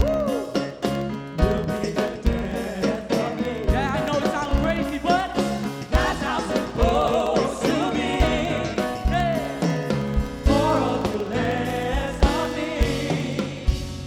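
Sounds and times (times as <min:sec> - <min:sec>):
person singing wordless vocal: 0:00.0 - 0:00.8, 0:01.5 - 0:14.0
live gospel band music: 0:00.0 - 0:14.0.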